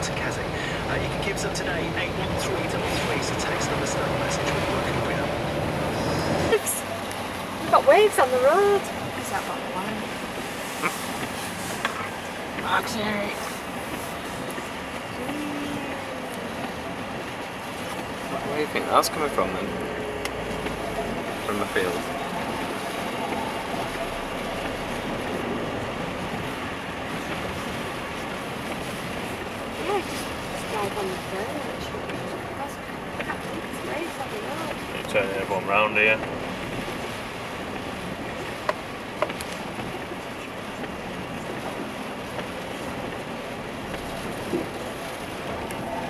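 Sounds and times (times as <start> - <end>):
car driving through floodwater: 0.0 - 46.0
road noise: 0.0 - 46.0
water rushing: 0.0 - 46.0.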